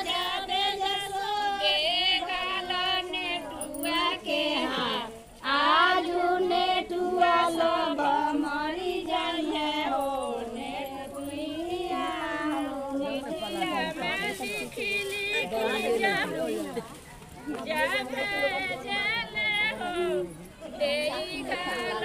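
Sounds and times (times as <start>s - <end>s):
women singing a folk song: 0.0s - 22.0s.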